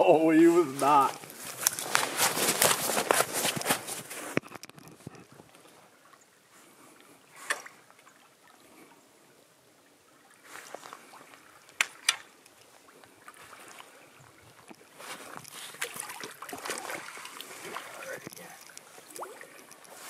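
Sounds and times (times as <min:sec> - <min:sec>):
water sloshing and splashing: 0:00.7 - 0:09.0, 0:09.9 - 0:20.0.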